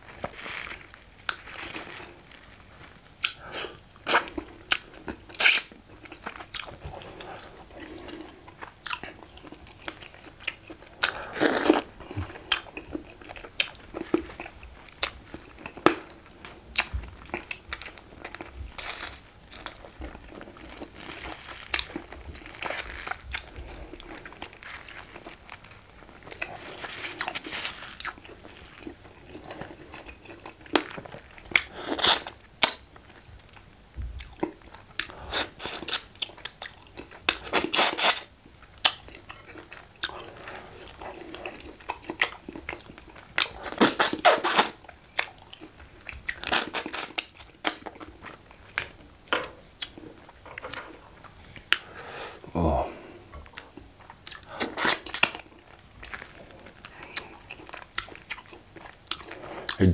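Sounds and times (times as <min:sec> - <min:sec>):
crunching food: 0:00.0 - 0:52.0, 0:53.4 - 0:59.9
chewing and lip smacking: 0:03.2 - 0:03.4, 0:04.0 - 0:49.1, 0:49.8 - 0:51.9, 0:53.4 - 0:59.8.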